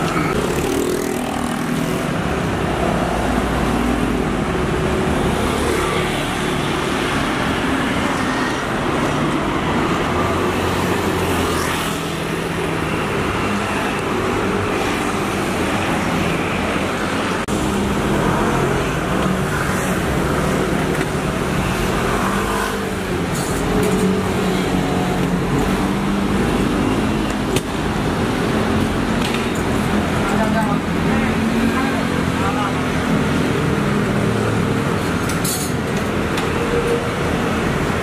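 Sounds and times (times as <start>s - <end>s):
scooters and cars passing: 0.0s - 38.0s.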